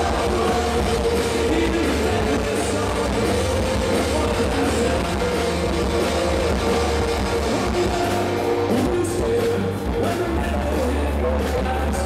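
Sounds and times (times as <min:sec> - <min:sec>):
electric guitars: 0:00.0 - 0:12.0
live rock band playing loud: 0:00.0 - 0:12.0.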